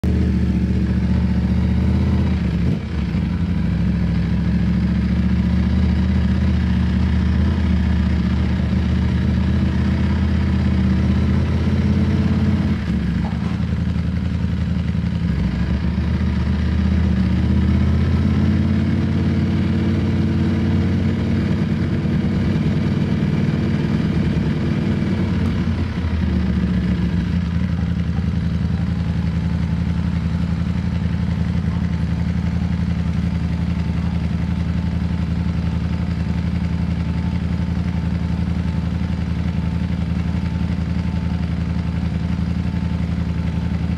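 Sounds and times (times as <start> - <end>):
motorcycle engine at low revs: 0.0 - 43.9.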